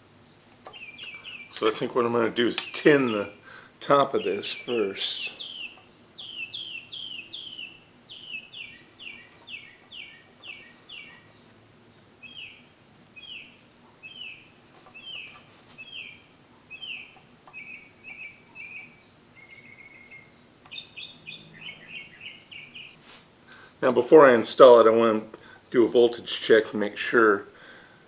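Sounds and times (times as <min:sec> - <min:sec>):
bird chirping: 0:00.0 - 0:27.9.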